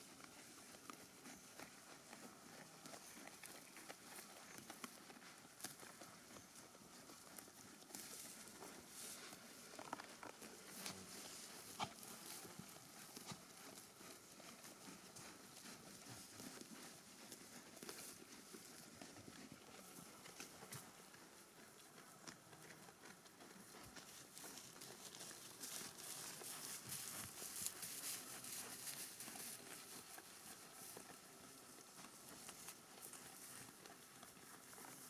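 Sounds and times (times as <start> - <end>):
sheep chewing grass: 0.0 - 35.0.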